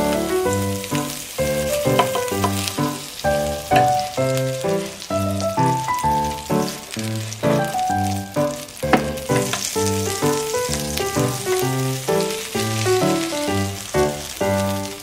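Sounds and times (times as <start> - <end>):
background music melody: 0.0 - 15.0
butter sizzling in frying pan: 0.0 - 15.0.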